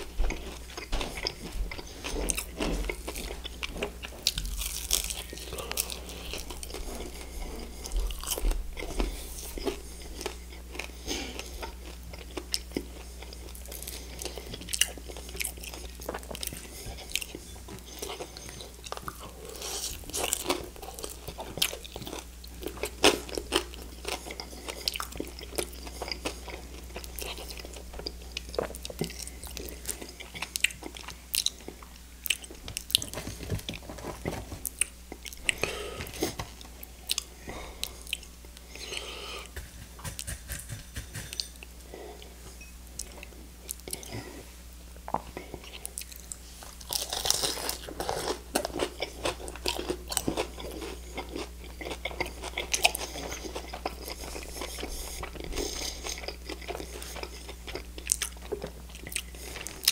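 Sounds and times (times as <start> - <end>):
crunching and chewing: 0.0 - 42.4, 43.0 - 59.9.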